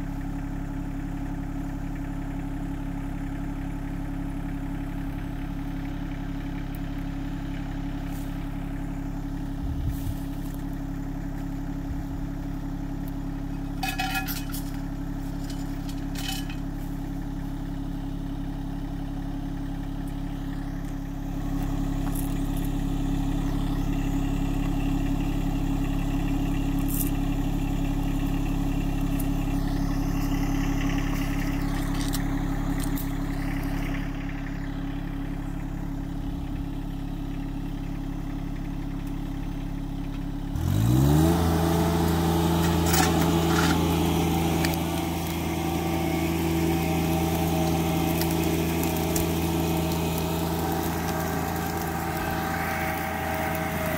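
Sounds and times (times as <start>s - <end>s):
tractor diesel engine revving: 0.0s - 53.9s.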